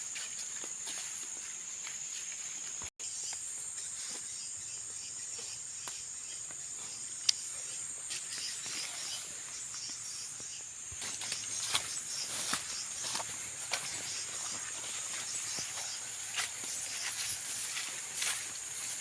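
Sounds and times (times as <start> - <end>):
insects buzzing drone: 0.0 - 19.0.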